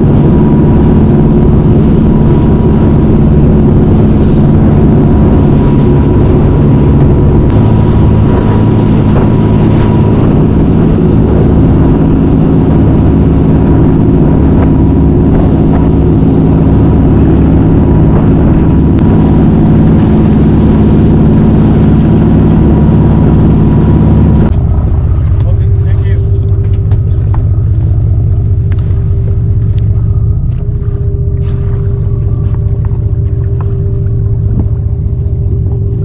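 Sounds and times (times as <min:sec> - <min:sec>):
boat engine drone: 0:00.0 - 0:36.0
wake rushing along hull: 0:00.0 - 0:36.0.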